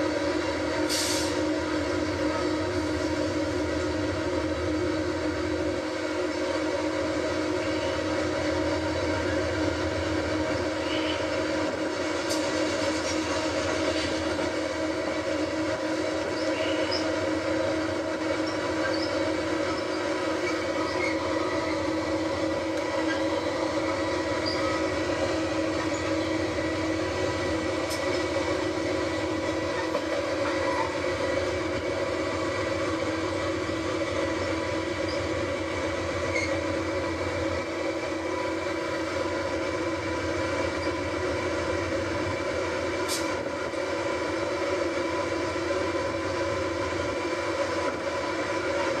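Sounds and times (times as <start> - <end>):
diesel locomotive engine drone: 0.0 - 49.0.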